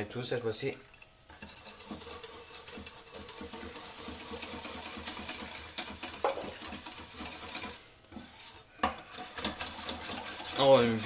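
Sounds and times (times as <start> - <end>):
wire whisk beating batter: 1.3 - 11.0.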